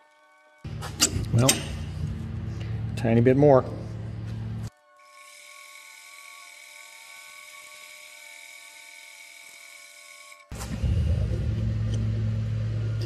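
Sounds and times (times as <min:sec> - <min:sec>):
metal lathe whining: 0:00.0 - 0:13.0.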